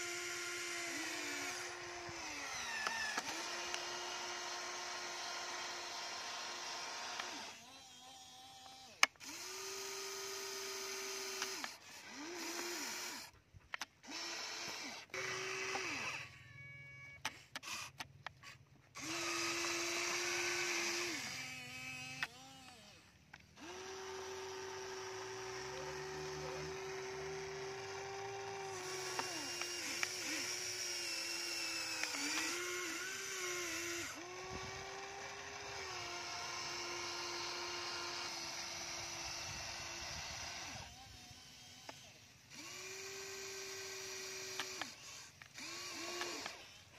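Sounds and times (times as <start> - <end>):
toy excavator motors whining: 0.0 - 46.9.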